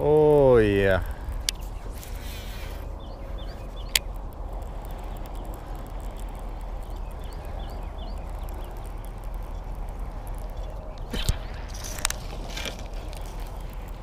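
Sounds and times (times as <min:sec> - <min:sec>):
low steady rumble: 0:00.0 - 0:14.0
fishing reel ticking: 0:00.3 - 0:14.0
small bird chirping: 0:01.1 - 0:14.0.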